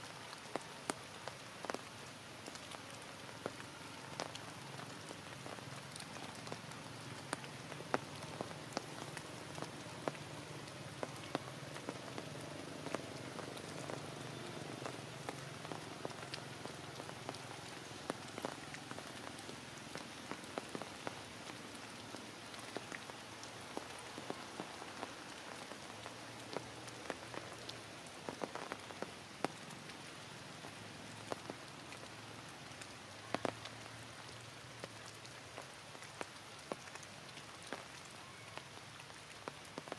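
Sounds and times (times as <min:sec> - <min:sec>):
heavy rain hissing: 0:00.0 - 0:39.9
raindrops tapping close by: 0:00.0 - 0:39.9.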